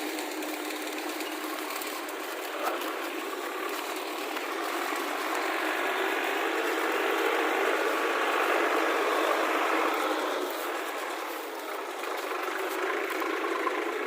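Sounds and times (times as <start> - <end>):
heavy diesel machinery clattering: 0.0 - 14.0.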